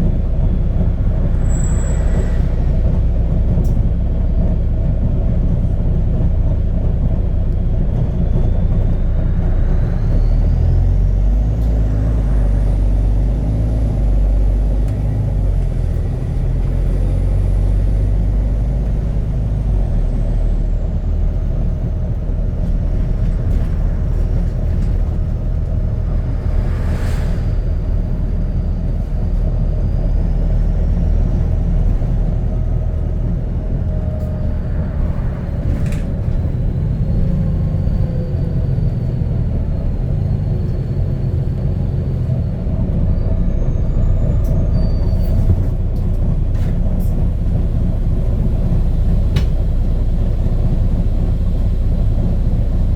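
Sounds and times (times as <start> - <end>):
bus engine rumbling: 0.0 - 52.9.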